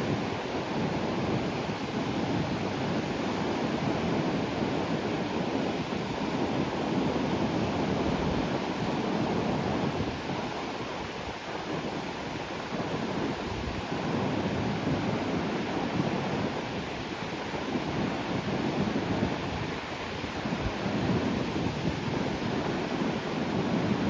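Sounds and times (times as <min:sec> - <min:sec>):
sea waves washing ashore: 0:00.0 - 0:24.0
wind on microphone: 0:00.0 - 0:24.0.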